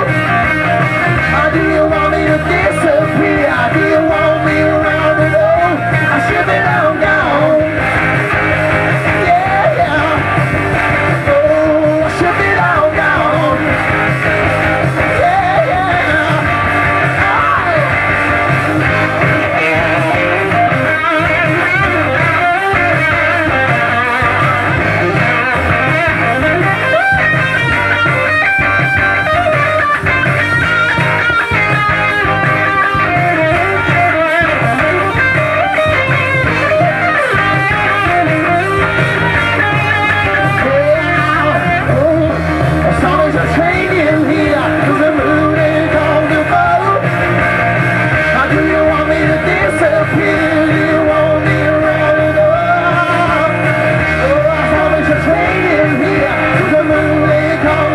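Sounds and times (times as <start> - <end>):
electric guitar bending notes: 0.0 - 57.9
live rock band instrumental: 0.0 - 57.9.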